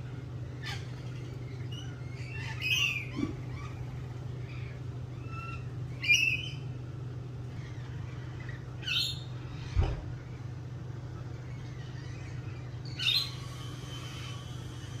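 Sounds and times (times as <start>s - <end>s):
harsh bird calls: 0.0s - 15.0s
steady low hum: 0.0s - 15.0s.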